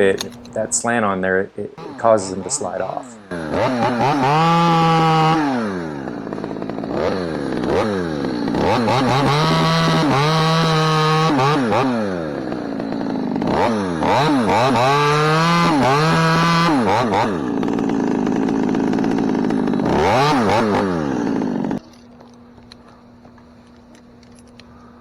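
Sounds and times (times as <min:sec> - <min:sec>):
chainsaw revving: 0:01.8 - 0:21.9.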